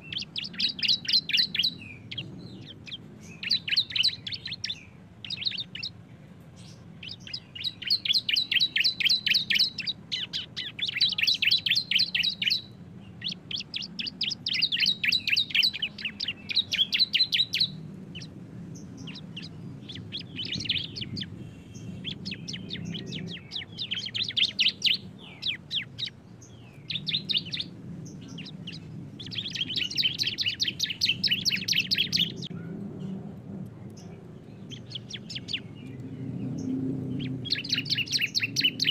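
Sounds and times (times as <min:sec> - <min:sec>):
birds singing rapid high trills: 0:00.0 - 0:33.2, 0:33.9 - 0:38.9.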